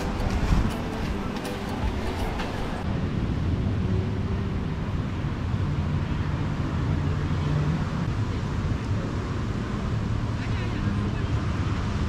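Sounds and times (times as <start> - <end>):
engine drone with hum: 0.0 - 12.0
outdoor background noise: 0.0 - 12.0.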